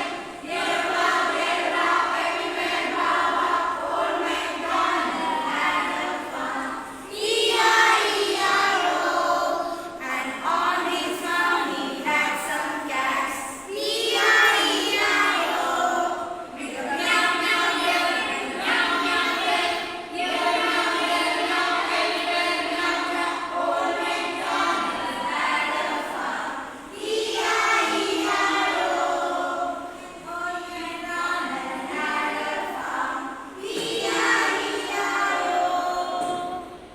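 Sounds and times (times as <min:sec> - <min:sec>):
children's choir singing: 0:00.0 - 0:36.9.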